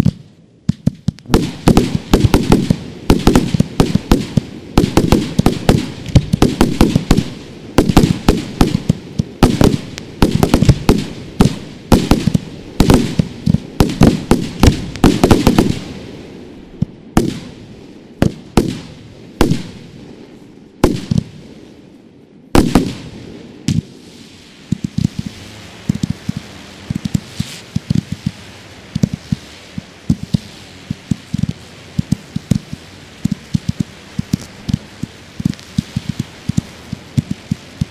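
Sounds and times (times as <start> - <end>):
fireworks banging: 0.0 - 37.9.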